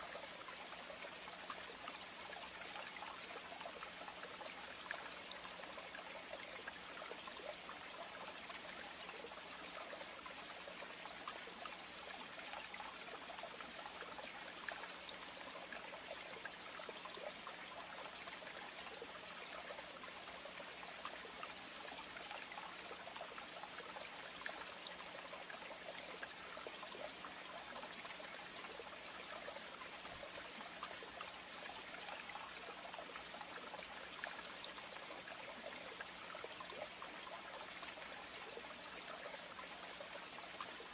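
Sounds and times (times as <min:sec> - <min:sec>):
trickle of running water: 0:00.0 - 0:40.9.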